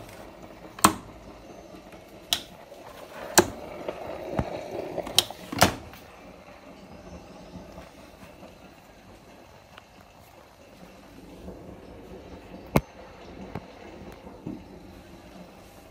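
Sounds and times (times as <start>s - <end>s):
washing machine churning: 0.0s - 15.9s
washing machine running: 0.0s - 15.9s.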